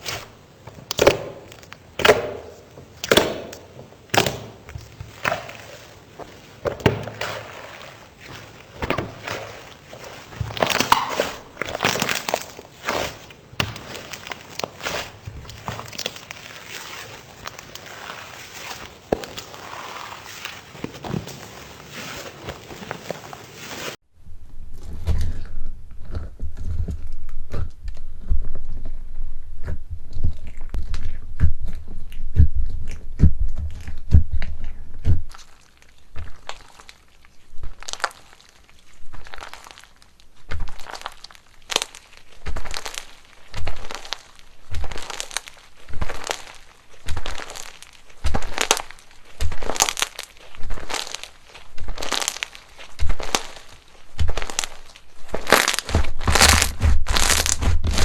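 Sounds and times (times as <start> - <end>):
crunchy slime squeezed by hand: 0.0 - 24.0, 35.3 - 58.0.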